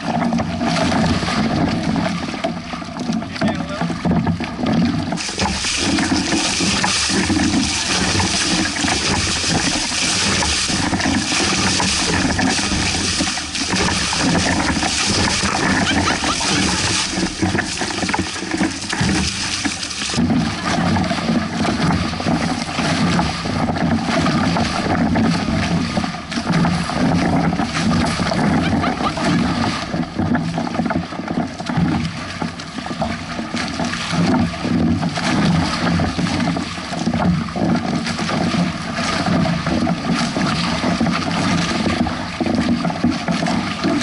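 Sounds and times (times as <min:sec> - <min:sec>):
water splashing along boat hull: 0:00.0 - 0:44.0.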